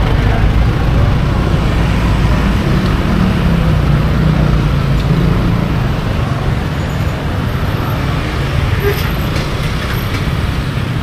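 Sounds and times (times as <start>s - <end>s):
motorbike engines: 0.0s - 11.0s
truck engine hum: 0.0s - 11.0s.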